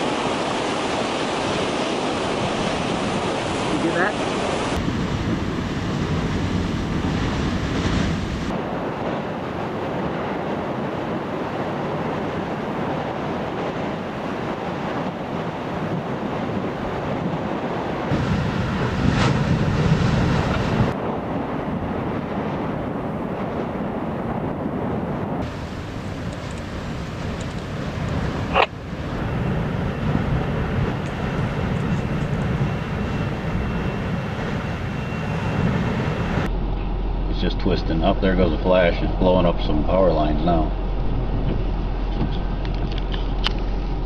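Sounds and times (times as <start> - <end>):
storm wind blasting microphone: 0.0 - 44.0.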